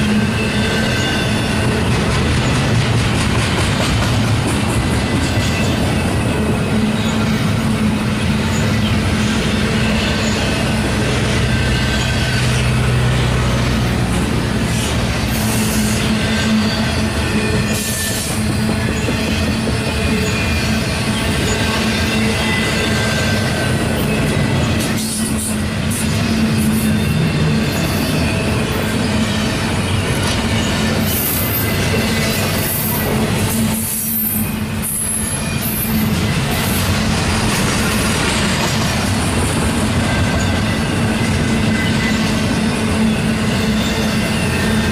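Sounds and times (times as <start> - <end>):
freight train wheels rumbling on rail: 0.0 - 44.9.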